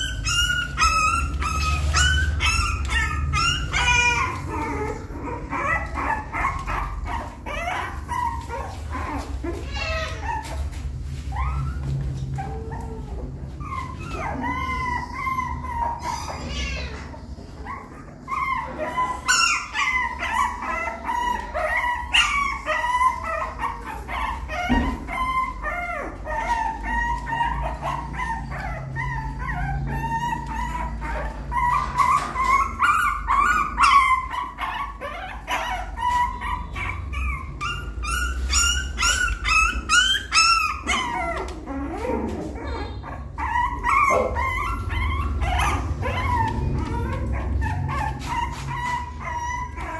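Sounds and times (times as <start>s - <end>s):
puppy whining and yelping: 0.0s - 49.9s.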